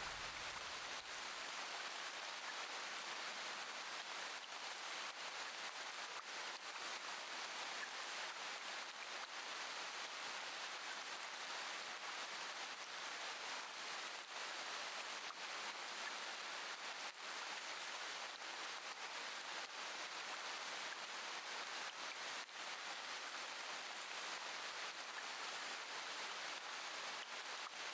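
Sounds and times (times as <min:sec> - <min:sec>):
steady rain: 0:00.0 - 0:27.9.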